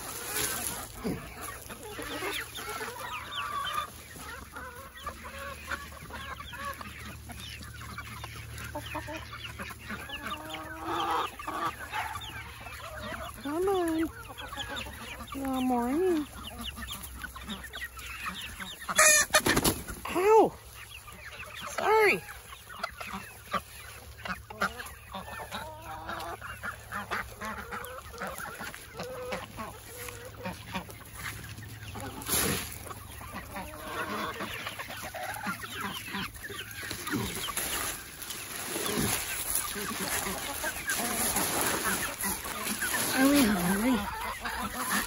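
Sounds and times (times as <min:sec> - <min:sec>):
chickens clucking: 0:00.0 - 0:45.0
loud chicken calls: 0:00.0 - 0:45.0.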